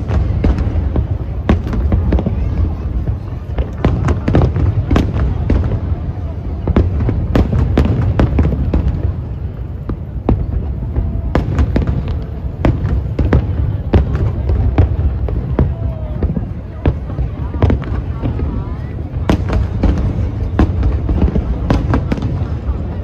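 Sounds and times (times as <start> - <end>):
fireworks bangs: 0.0 - 23.0
low rumble of fireworks: 0.0 - 23.0.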